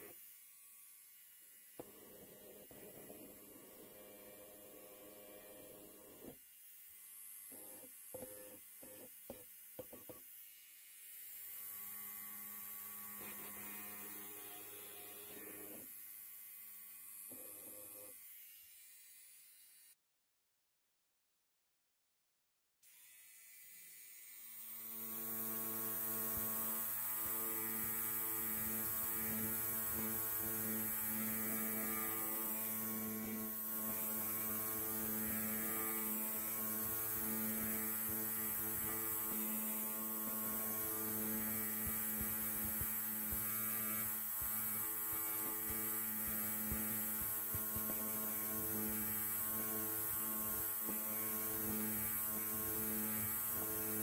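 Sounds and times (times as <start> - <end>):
electric hair clipper buzzing: 0.0 - 20.0, 22.8 - 54.0.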